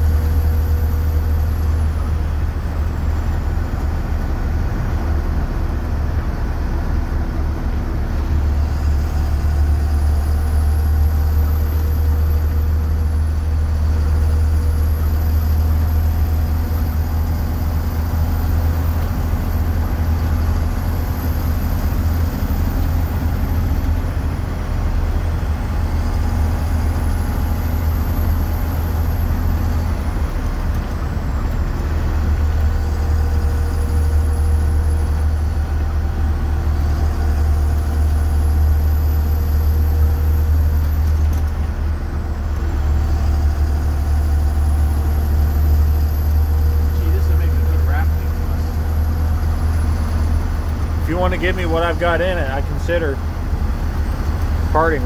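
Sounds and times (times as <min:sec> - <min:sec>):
bus diesel engine drone: 0:00.0 - 0:55.0
road noise: 0:00.0 - 0:55.0.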